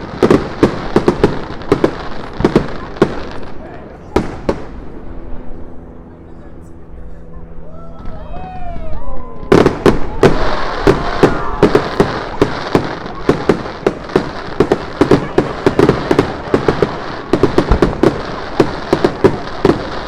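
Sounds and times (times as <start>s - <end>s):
fireworks bangs and crackles: 0.0s - 5.7s, 8.0s - 20.0s.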